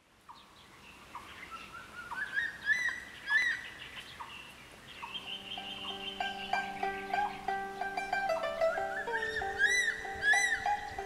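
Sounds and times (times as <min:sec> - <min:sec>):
soft background hiss: 0:00.0 - 0:11.0
birds chirping: 0:00.2 - 0:11.0.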